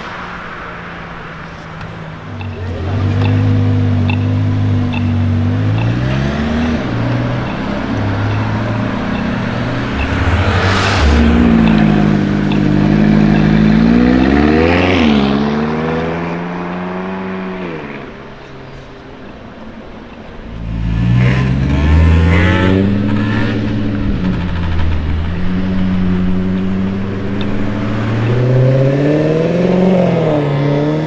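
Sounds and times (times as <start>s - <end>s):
sports car engine accelerating: 2.3s - 19.1s, 20.1s - 31.0s.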